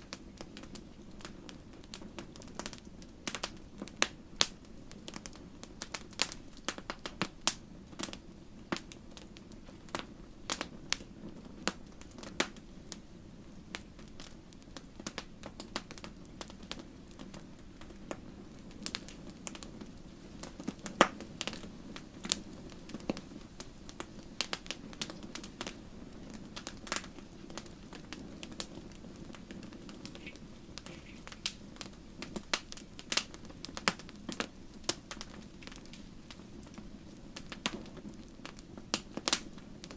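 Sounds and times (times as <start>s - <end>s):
campfire crackling and popping: 0.0s - 39.9s
low rush of flames: 0.0s - 39.9s.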